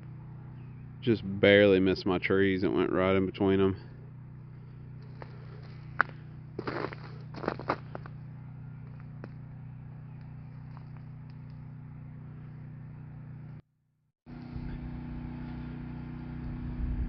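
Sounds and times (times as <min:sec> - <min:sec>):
low engine hum: 0:00.0 - 0:13.6, 0:14.3 - 0:17.0.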